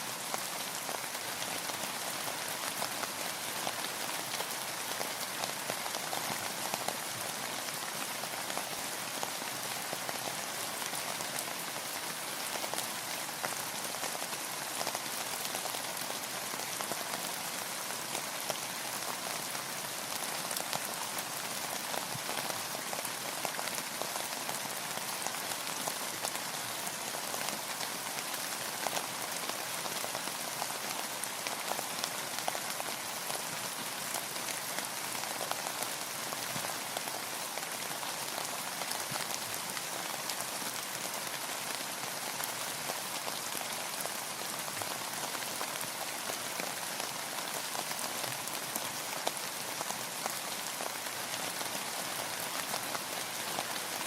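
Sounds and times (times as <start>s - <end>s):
rain on hard surface: 0.0s - 54.0s.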